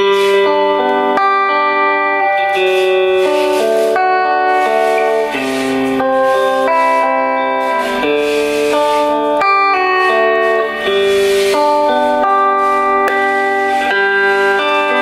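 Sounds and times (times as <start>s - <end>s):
electric guitar notes and chords: 0.0s - 15.0s.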